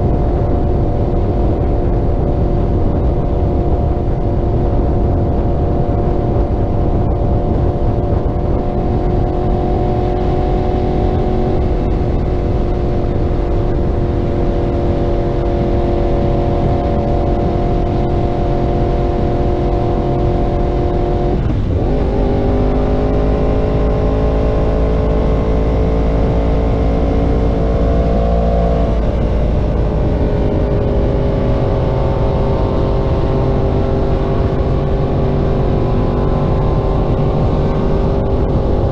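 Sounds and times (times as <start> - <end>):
motorcycle engine cruising: 0.0 - 38.9
wind rumble on microphone: 0.0 - 38.9.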